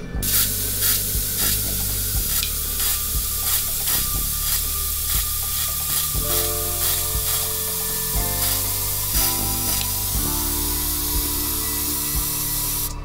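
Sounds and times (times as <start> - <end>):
background music with beat: 0.0 - 13.0
airbrush spraying hiss: 0.2 - 13.0.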